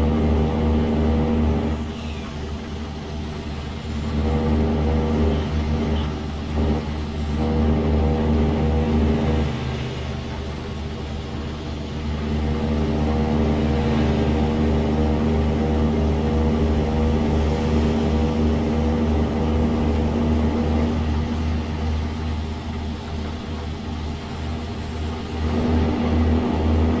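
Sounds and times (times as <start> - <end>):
truck diesel engine rumbling: 0.0 - 27.0.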